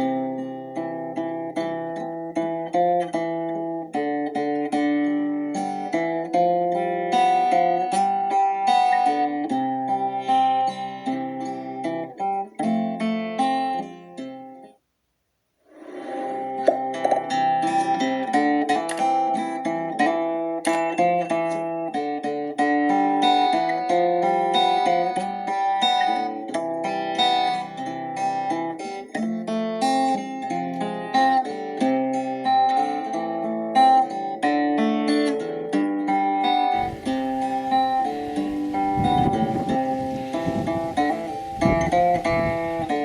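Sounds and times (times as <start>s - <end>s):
acoustic guitar worship music: 0.0s - 14.8s, 15.7s - 43.0s.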